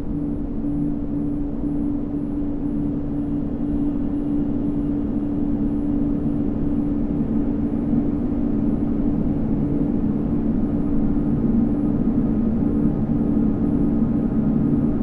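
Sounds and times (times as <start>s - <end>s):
steady held drone tone: 0.0s - 15.0s.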